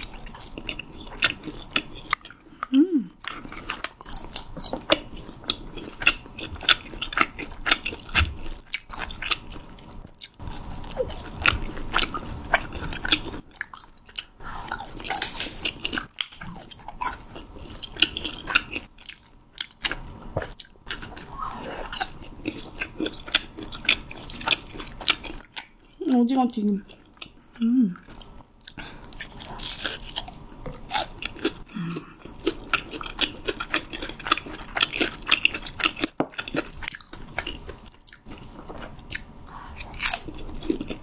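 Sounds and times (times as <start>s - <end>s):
chewing: 0.0s - 26.1s, 26.8s - 41.0s.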